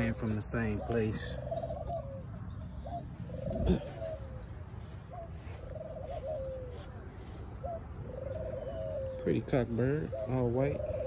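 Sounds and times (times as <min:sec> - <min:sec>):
pigeon cooing: 0:00.0 - 0:11.0.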